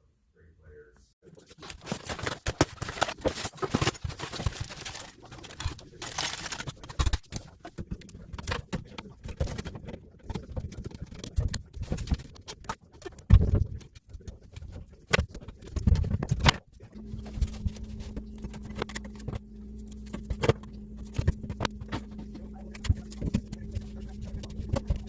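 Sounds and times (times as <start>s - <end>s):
plumbing parts clicking and scraping: 1.2s - 25.0s.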